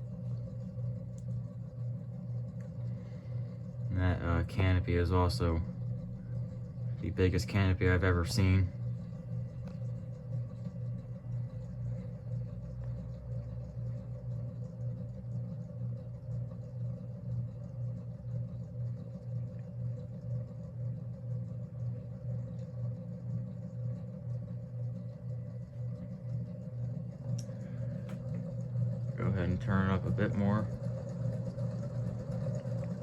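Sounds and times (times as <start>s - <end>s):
ceiling fan humming: 0.0s - 33.0s
worn fan bearings noise: 0.0s - 33.0s.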